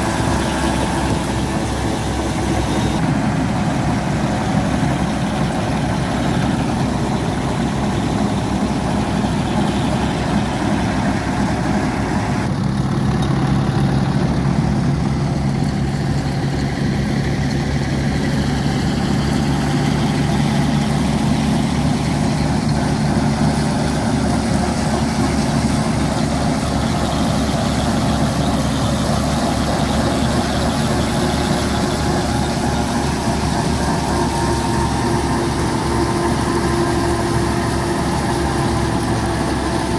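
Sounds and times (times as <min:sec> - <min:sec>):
straw reaper machine drone: 0:00.0 - 0:39.9
tractor diesel engine running: 0:00.0 - 0:39.9.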